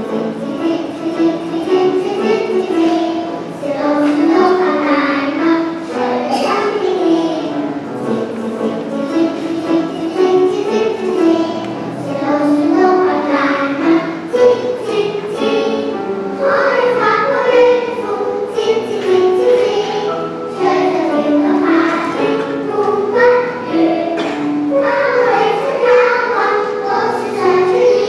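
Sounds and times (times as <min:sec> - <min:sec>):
children's choir singing: 0:00.0 - 0:28.0
grand piano accompaniment: 0:00.0 - 0:28.0.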